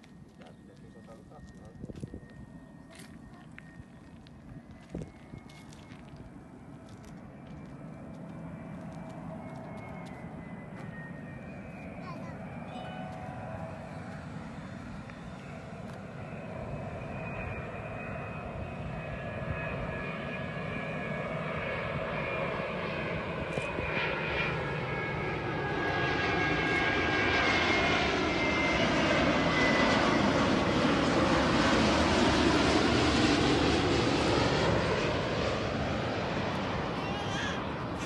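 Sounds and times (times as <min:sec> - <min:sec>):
jet airliner passing by: 0:00.0 - 0:38.0.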